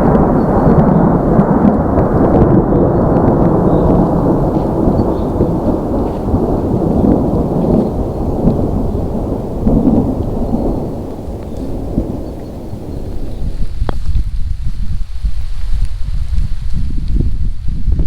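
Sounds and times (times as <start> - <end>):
heavy rain: 0.0 - 14.8
rolling thunder rumble: 0.0 - 18.0.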